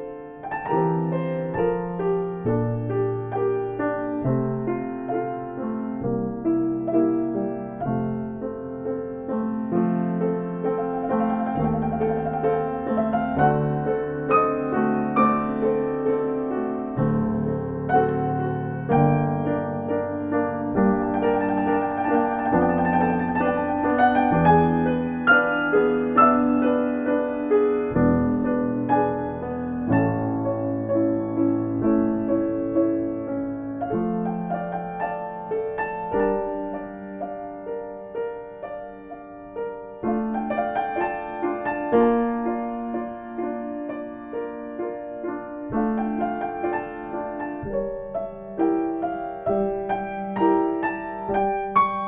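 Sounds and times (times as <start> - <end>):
piano playing chords: 0.0 - 52.0.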